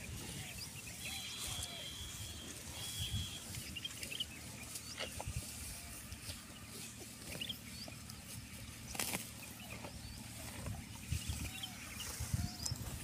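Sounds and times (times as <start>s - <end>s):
buffalo chewing dry grass: 0.0s - 13.0s.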